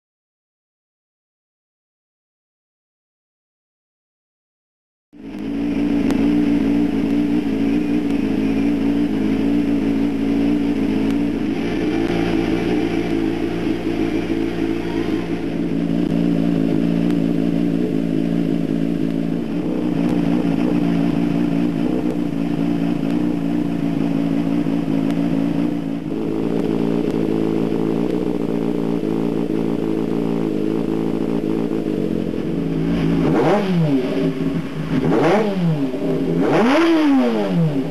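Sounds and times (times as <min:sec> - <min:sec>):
motorcycle engine idling and revving: 0:05.1 - 0:37.9.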